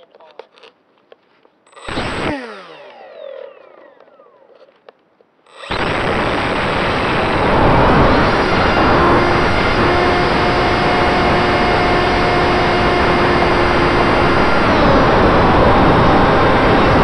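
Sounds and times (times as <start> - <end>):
electric motor and propeller whine: 1.7 - 17.0.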